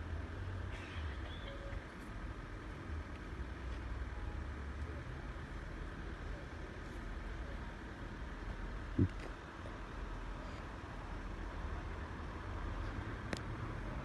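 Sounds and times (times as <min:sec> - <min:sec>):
road vehicle engines rumbling: 0:00.0 - 0:14.0.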